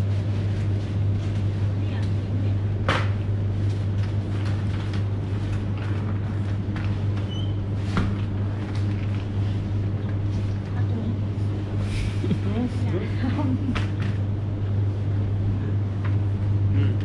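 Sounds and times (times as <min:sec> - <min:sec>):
display coolers humming: 0:00.0 - 0:17.0.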